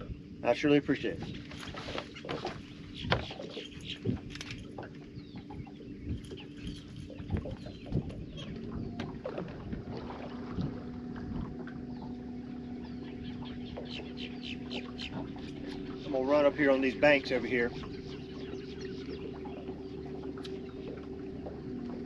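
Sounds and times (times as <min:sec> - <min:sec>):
birds calling over water: 0:00.0 - 0:22.0
steady low hum: 0:00.0 - 0:22.0.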